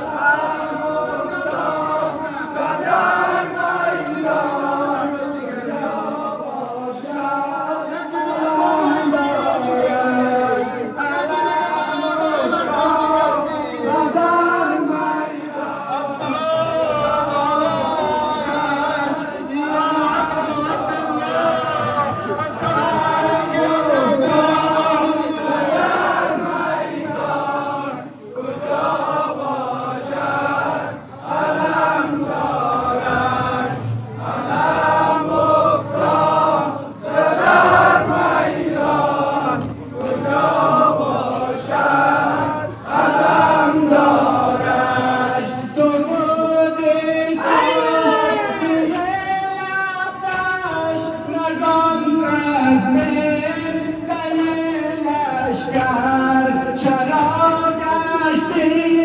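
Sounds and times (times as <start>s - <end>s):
crowd chanting a lament: 0.0s - 59.0s.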